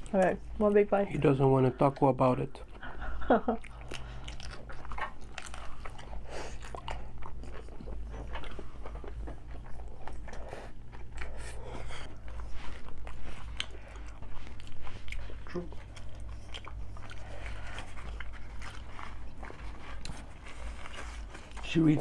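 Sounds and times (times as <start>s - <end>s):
low steady hum: 0.0s - 22.0s
crunchy chewing: 3.6s - 22.0s.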